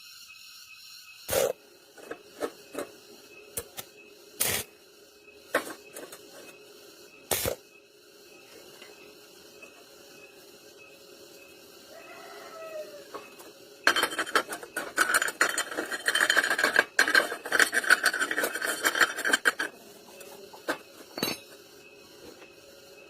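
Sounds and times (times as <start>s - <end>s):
steady background hum: 0.2s - 23.0s.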